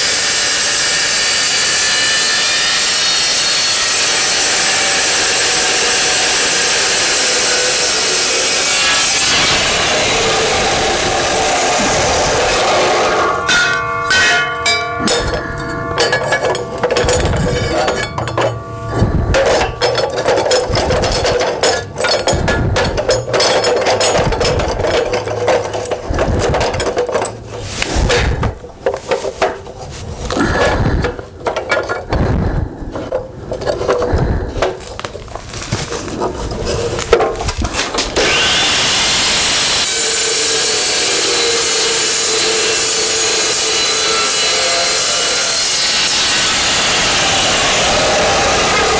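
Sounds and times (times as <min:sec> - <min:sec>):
saw cutting steel: 0:00.0 - 0:31.6, 0:37.8 - 0:48.9.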